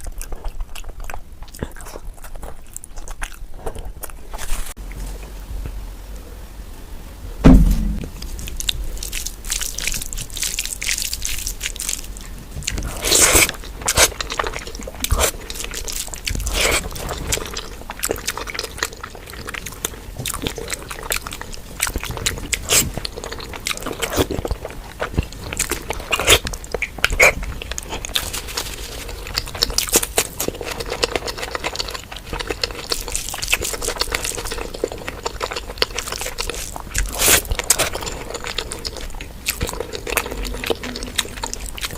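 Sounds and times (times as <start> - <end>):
chewing with wet mouth smacks: 0.0 - 4.5, 8.2 - 41.9.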